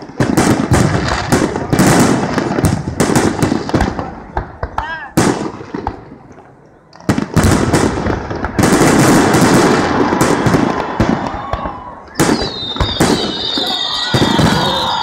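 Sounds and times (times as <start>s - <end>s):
firework bangs: 0.0s - 15.0s
fireworks crackling: 0.0s - 15.0s.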